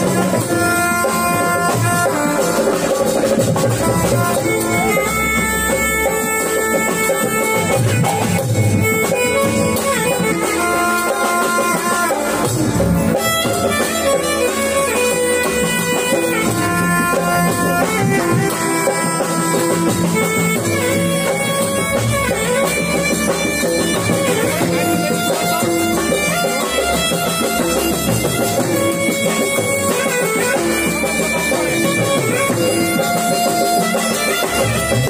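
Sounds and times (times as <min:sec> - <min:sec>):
drums: 0:00.0 - 0:35.0
electronic keyboard melody: 0:00.0 - 0:35.0
hand drum: 0:00.0 - 0:35.0.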